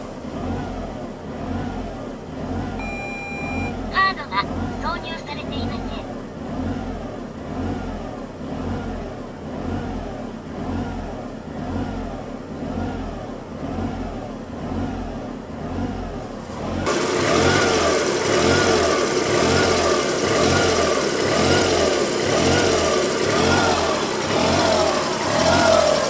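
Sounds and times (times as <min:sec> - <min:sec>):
small car engine running: 0:00.0 - 0:26.0.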